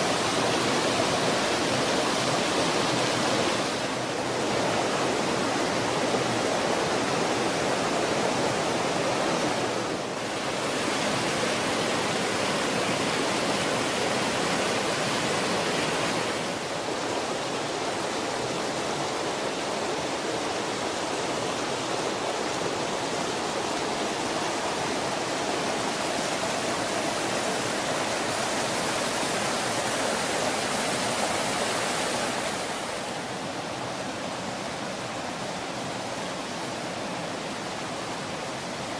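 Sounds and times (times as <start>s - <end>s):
creek water roaring over waterfalls: 0.0s - 38.9s.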